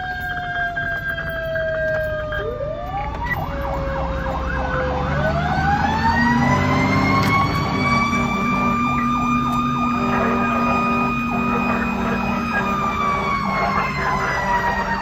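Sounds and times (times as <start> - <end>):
siren high steady wail: 0.0 - 15.0
siren sweeping up and down: 0.0 - 15.0
truck engine rumbling: 0.0 - 15.0.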